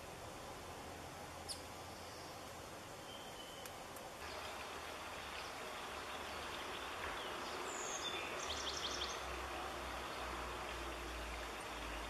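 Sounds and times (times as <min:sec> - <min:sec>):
songbird chirps: 0:00.0 - 0:12.0.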